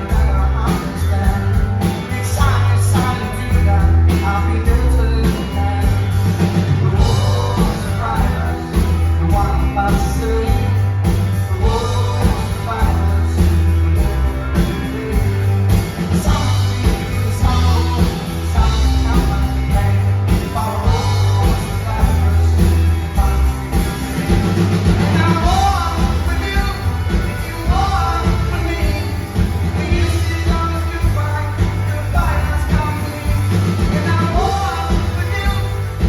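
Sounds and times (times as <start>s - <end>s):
person singing: 0.0s - 36.0s
rock band playing live: 0.0s - 36.0s.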